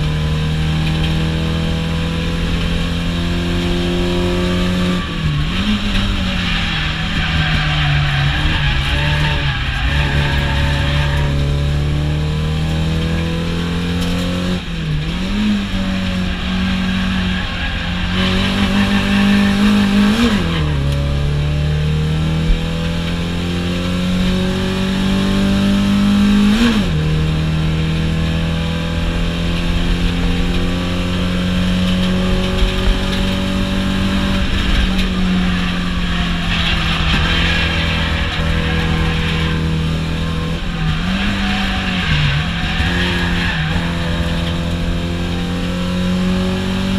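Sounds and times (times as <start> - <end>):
car engine pulling hard: 0.0 - 46.9.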